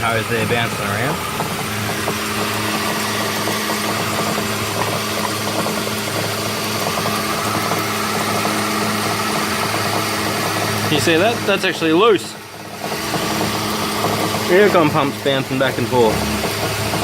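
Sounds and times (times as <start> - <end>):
compressor knocking on mounting: 0.0 - 17.0
van engine idling: 0.0 - 17.0.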